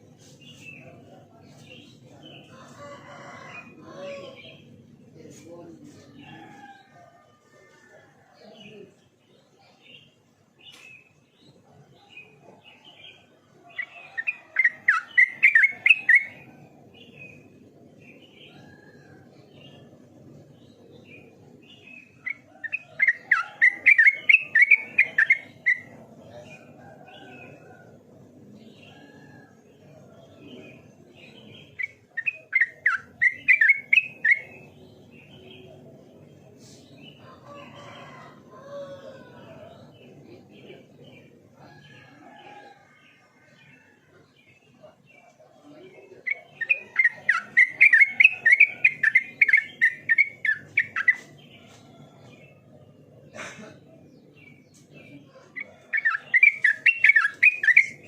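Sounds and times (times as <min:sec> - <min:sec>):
bird singing: 0:07.8 - 0:36.3, 0:36.9 - 0:53.4, 0:54.0 - 0:58.0.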